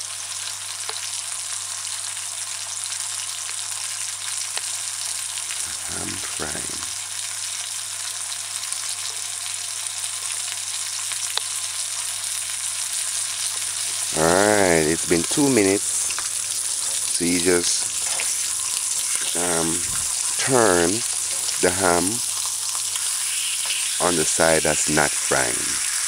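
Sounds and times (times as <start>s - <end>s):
ham sizzling in oil: 0.0s - 26.0s.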